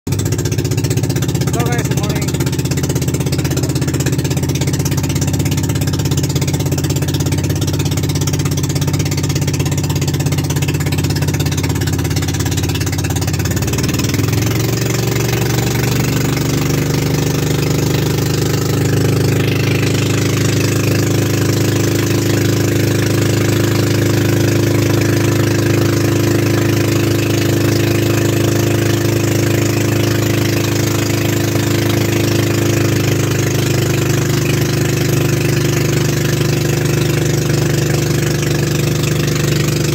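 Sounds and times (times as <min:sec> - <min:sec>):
boat engine running: 0:00.1 - 0:39.9.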